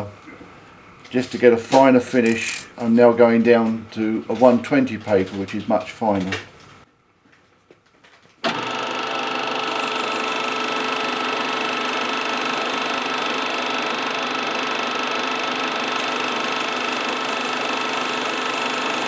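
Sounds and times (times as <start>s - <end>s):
lathe motor whine: 0.0s - 6.8s, 8.4s - 19.0s.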